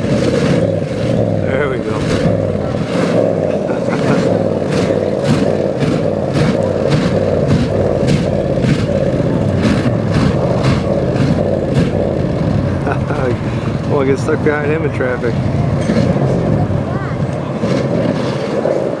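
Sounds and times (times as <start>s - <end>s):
car engine running hard: 0.0s - 19.0s
sharp exhaust cracks: 0.0s - 19.0s.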